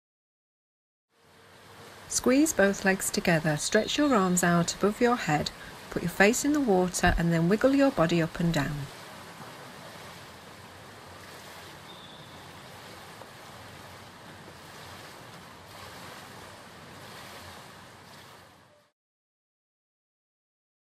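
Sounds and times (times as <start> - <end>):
water splashing from swimmer: 1.9 - 18.9.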